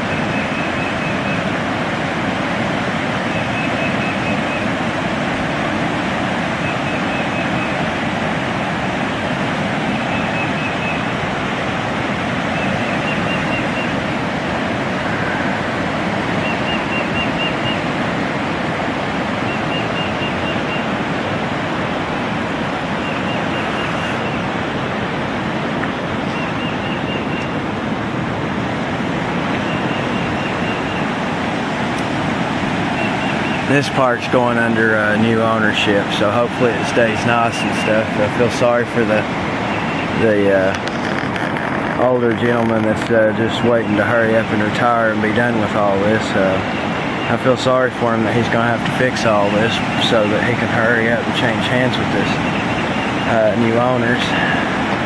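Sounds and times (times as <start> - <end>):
river rapids rushing: 0.0 - 55.0.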